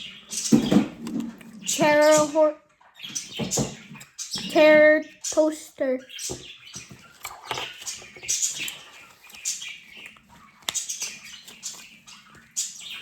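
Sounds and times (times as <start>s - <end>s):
plastic toys rustling: 0.3s - 2.5s, 3.2s - 13.0s.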